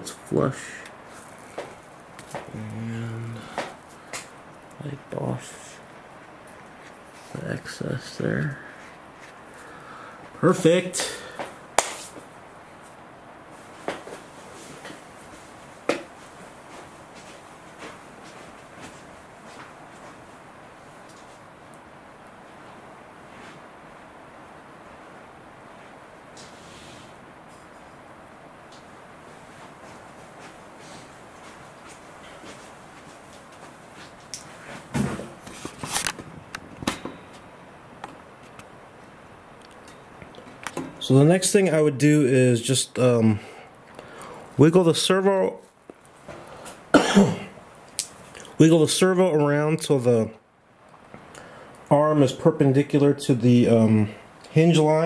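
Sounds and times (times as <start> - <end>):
low room hiss: 0.0 - 55.0.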